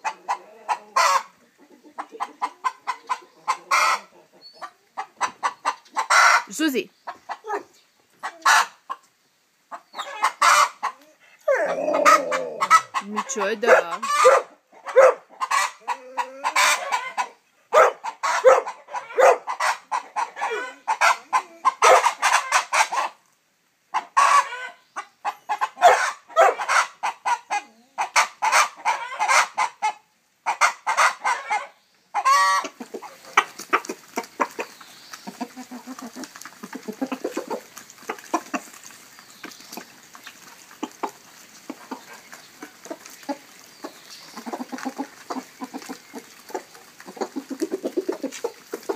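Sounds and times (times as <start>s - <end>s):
hens clucking: 0.0s - 23.3s, 23.9s - 48.9s.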